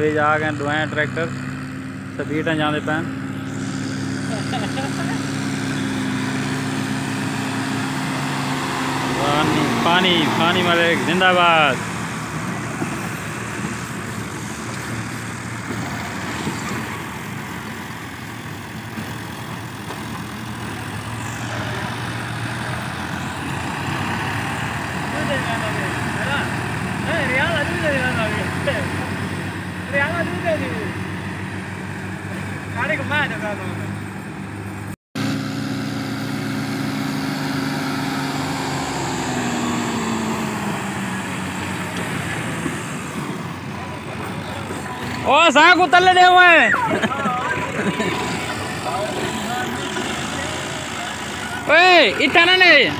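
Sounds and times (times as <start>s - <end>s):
tractor engines droning: 0.0s - 52.9s.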